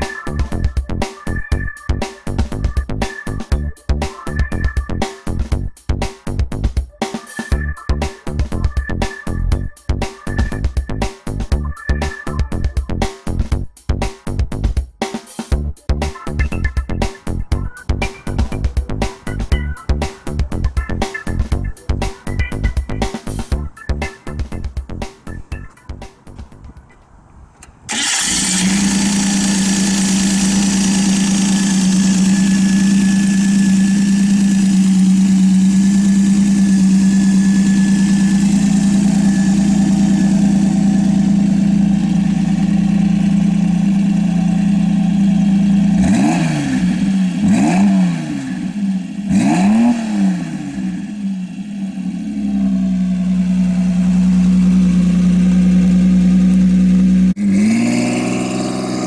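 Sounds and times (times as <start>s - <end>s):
car engine idling and revving: 0.0s - 6.8s, 7.6s - 13.7s, 16.0s - 59.0s.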